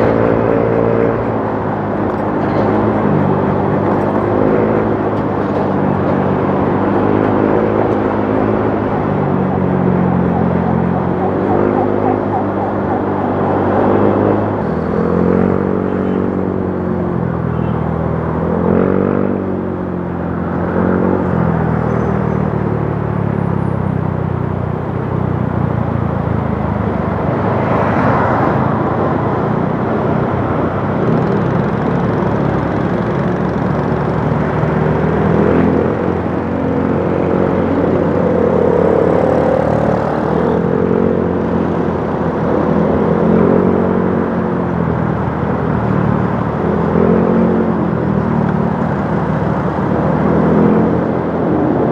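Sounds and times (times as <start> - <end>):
wind and road noise: 0.0 - 51.9.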